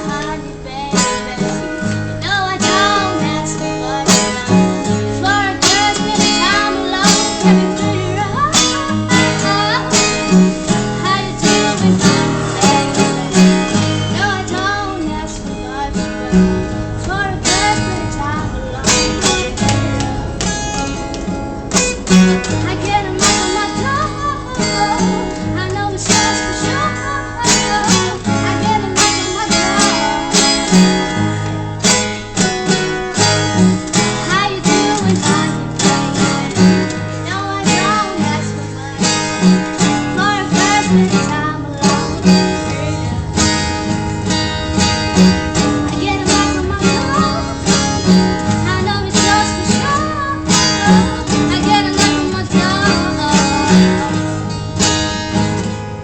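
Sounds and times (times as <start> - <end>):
person singing: 0.0 - 20.0, 22.4 - 54.7
acoustic guitar strumming: 0.0 - 56.0.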